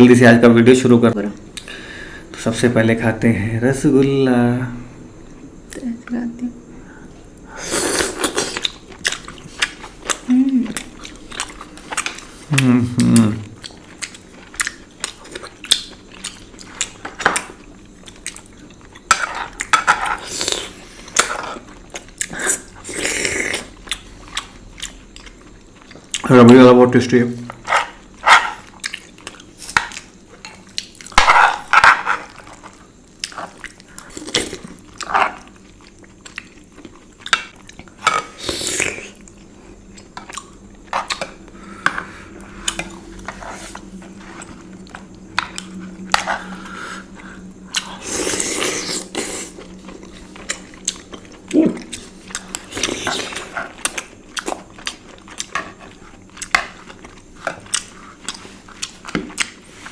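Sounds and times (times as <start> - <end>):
wet chewing and mouth sounds: 8.0 - 26.3, 27.5 - 59.9.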